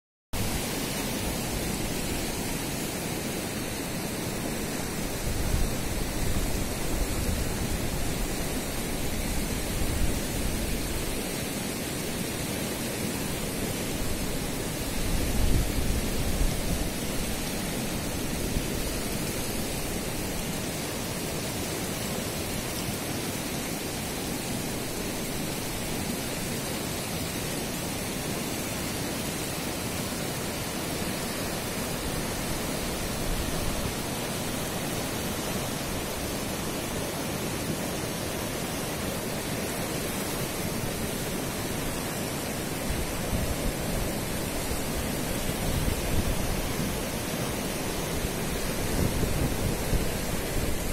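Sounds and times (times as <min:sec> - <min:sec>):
river rushing over rocks: 0:00.4 - 0:50.9.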